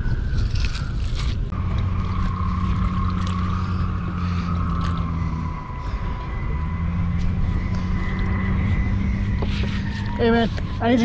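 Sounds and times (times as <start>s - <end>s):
high steady whine: 0.0s - 11.0s
low engine drone: 0.0s - 11.0s.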